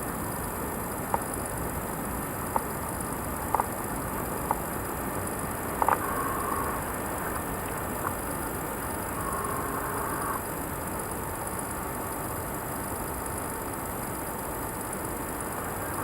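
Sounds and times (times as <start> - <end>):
camcorder hiss: 0.0 - 16.0.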